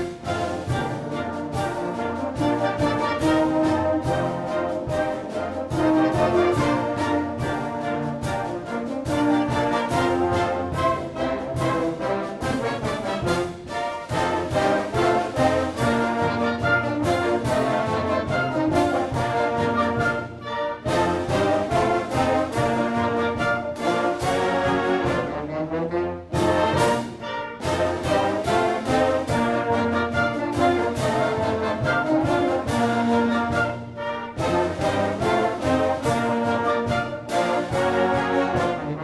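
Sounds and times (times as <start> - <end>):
concert band playing: 0.0 - 39.0.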